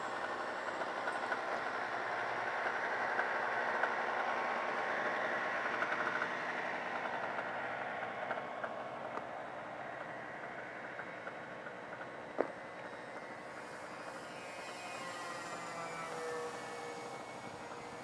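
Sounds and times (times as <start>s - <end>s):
model plane propellers droning: 0.0s - 18.0s.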